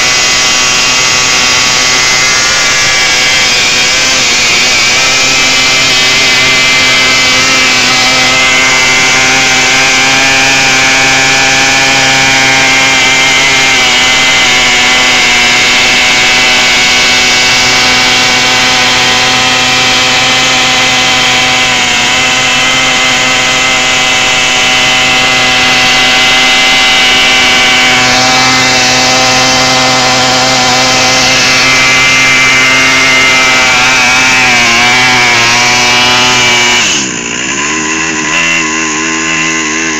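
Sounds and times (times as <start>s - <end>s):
small engine at high revs: 0.0s - 39.9s.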